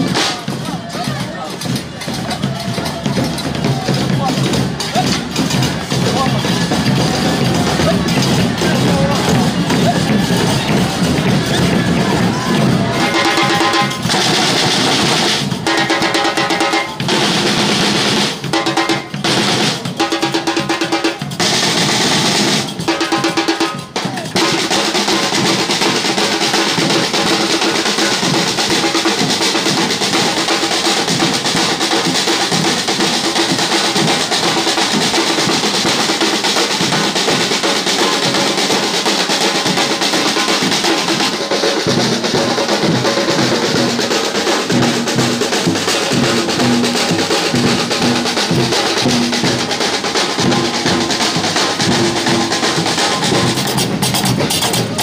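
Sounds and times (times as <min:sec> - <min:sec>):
drum-led percussion music: 0:00.0 - 0:55.0.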